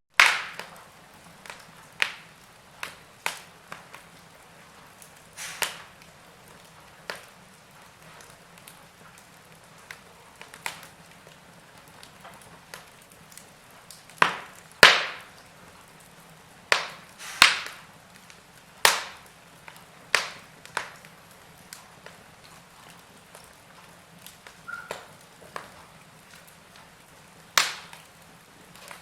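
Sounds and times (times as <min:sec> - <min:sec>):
burning logs crackling: 0:00.1 - 0:29.0.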